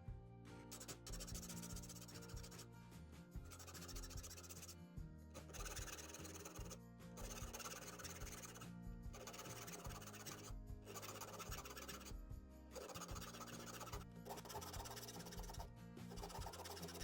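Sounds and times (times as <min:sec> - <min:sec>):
background music: 0:00.0 - 0:17.0
metal file rasping on saw teeth: 0:00.7 - 0:02.6, 0:03.5 - 0:04.8, 0:05.4 - 0:08.6, 0:09.2 - 0:12.1, 0:12.8 - 0:17.0.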